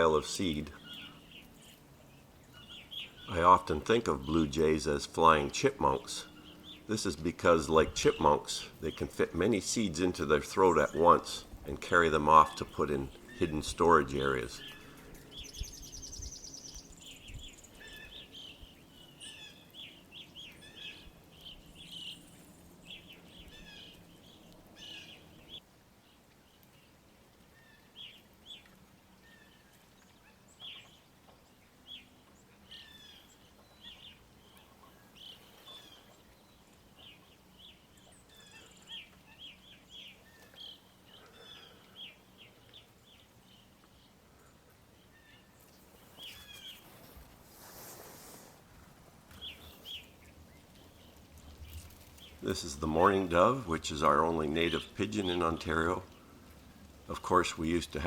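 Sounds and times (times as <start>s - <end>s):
birds chirping and calling: 0.0s - 25.6s, 27.6s - 47.4s, 49.3s - 58.0s
low background noise: 0.0s - 58.0s.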